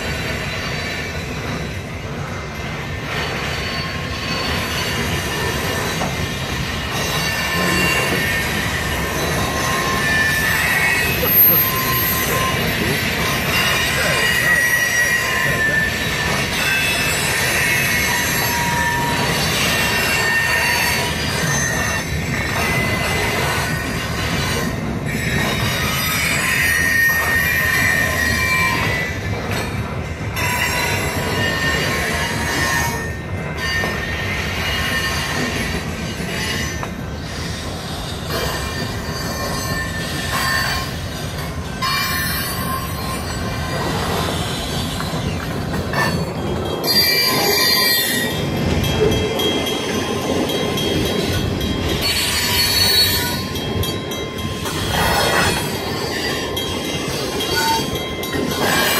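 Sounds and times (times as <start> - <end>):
freight train cars rumbling: 0.0 - 58.9
train wheels squealing: 0.0 - 58.9.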